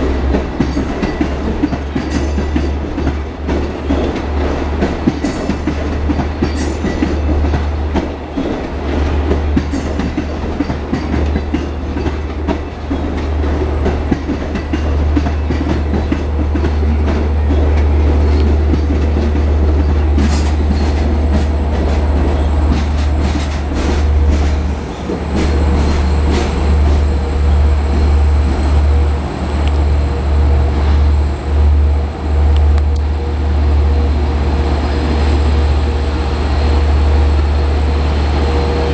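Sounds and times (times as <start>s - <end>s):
train wheels clacking: 0.0s - 31.2s
low train rumble: 0.0s - 38.9s.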